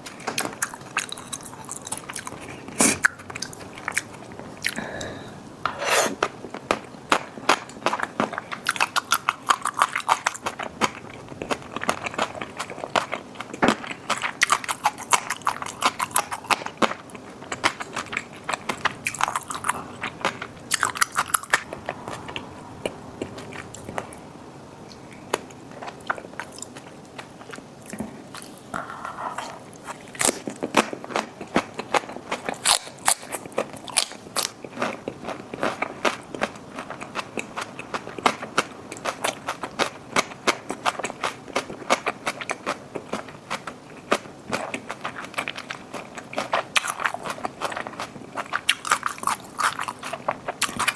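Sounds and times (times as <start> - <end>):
wet chewing: 0.1 - 50.9.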